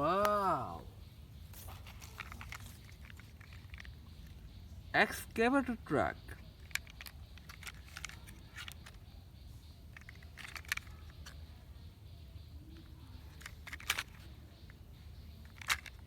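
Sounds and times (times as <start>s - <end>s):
plastic toys clicking: 0.0s - 16.0s.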